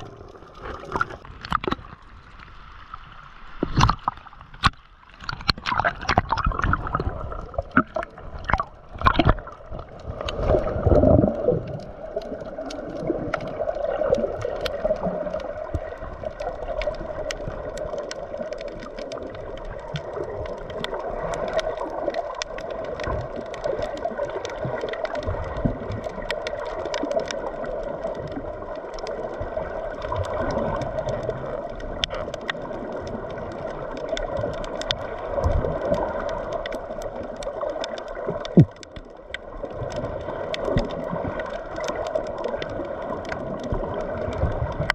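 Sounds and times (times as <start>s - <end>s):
water gurgling and sloshing: 0.0s - 44.9s.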